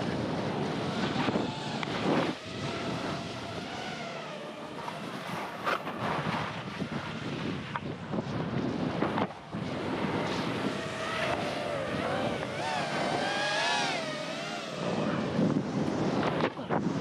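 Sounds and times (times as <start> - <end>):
wavering whine: 0.0 - 17.0.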